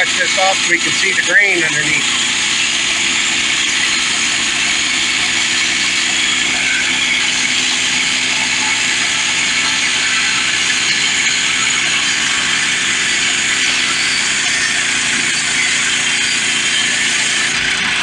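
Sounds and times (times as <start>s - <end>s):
band sawmill cutting log: 0.0s - 18.0s.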